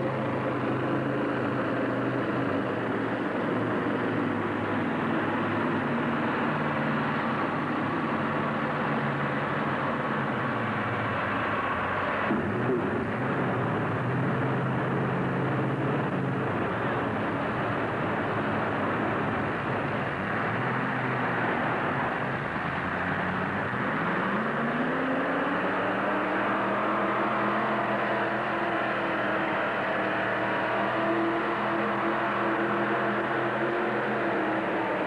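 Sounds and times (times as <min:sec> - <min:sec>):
tractor engine revving: 0:00.0 - 0:35.0.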